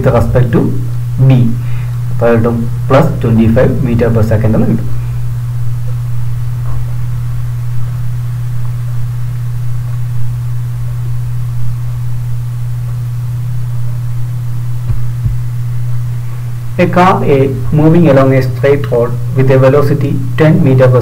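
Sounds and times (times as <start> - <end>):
low electrical hum: 0.0 - 21.0
steady hiss: 0.0 - 21.0.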